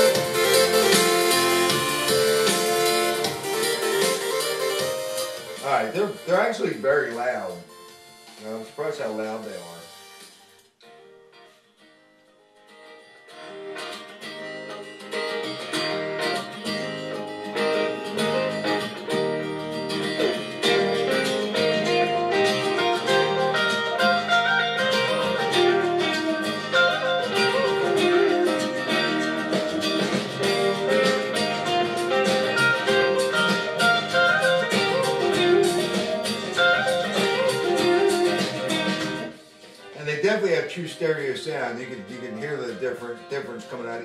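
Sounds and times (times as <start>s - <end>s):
music from bluetooth speakers: 0.0s - 11.6s, 13.2s - 44.0s.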